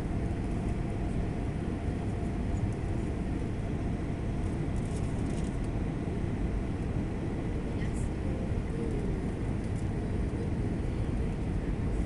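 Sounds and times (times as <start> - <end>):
airliner cabin low rumble: 0.0 - 12.0.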